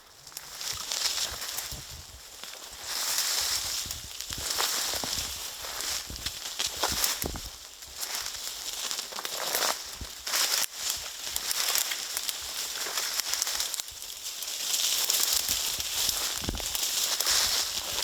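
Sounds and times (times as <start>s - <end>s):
dry leaves and brush crackling: 0.0s - 18.0s.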